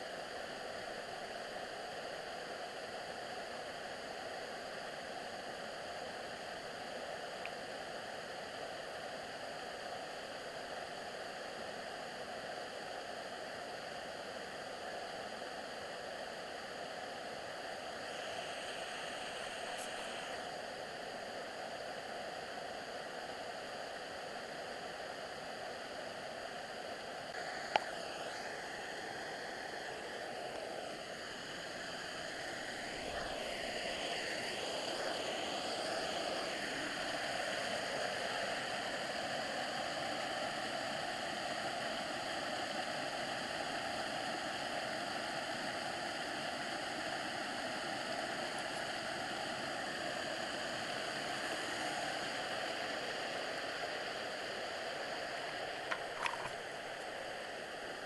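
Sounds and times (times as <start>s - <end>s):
camera hiss: 0.0s - 58.0s.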